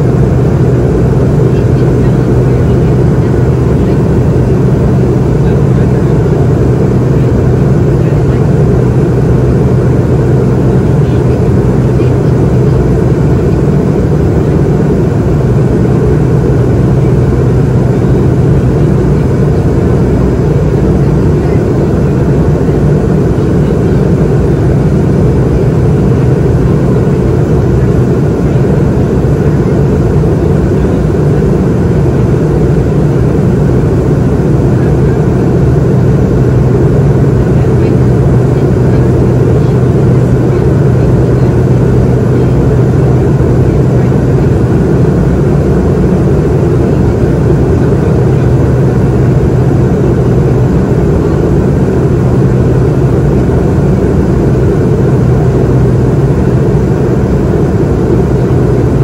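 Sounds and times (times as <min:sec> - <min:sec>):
airflow rushing over fuselage: 0:00.0 - 0:59.0
jet engines droning: 0:00.0 - 0:59.0
steady low hum: 0:00.0 - 0:59.0.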